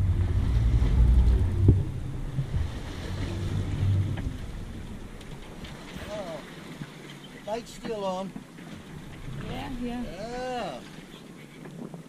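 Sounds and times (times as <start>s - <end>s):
waves sloshing against hull: 0.0s - 12.0s
wind buffeting microphone: 0.0s - 12.0s.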